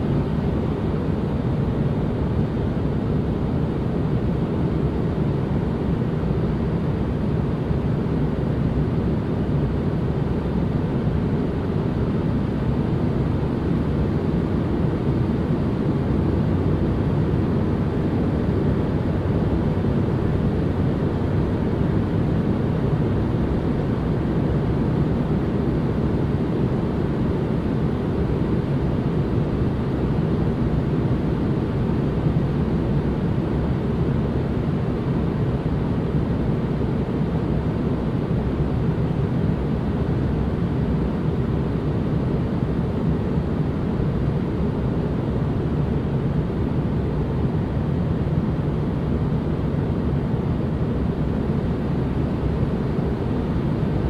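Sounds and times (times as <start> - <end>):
deep white noise: 0.0 - 54.0.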